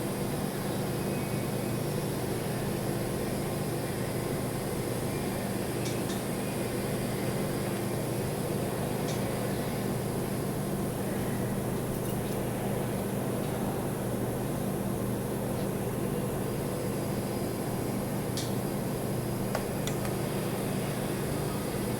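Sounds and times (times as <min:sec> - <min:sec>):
steady machine hum: 0:00.0 - 0:21.9.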